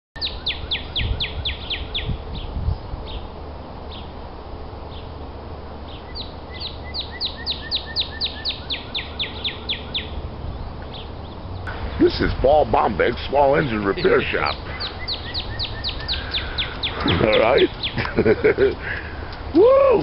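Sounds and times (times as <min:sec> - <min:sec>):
songbird singing: 0:00.2 - 0:04.2, 0:04.8 - 0:20.0.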